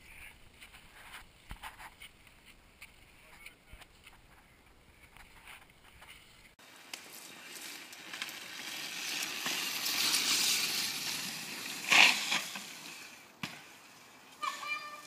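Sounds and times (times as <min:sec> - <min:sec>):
bike tyre and wind noise: 0:00.0 - 0:15.0.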